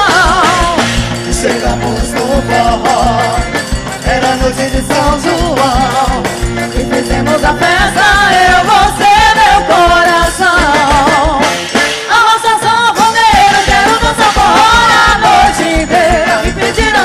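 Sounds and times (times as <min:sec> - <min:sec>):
bass drum beat: 0:00.0 - 0:12.0, 0:13.2 - 0:17.0
folk dance music: 0:00.0 - 0:17.0.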